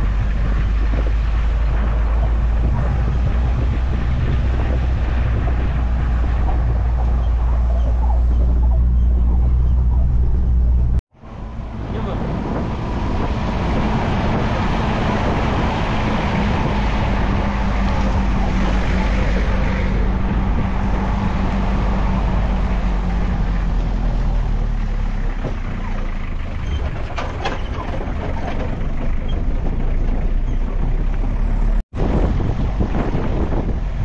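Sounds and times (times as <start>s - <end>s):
van engine and road noise: 0.0s - 34.0s.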